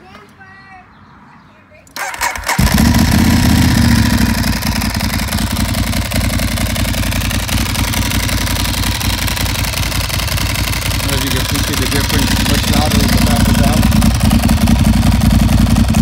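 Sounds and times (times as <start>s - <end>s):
motorcycle engine starting and idling: 1.9s - 16.0s.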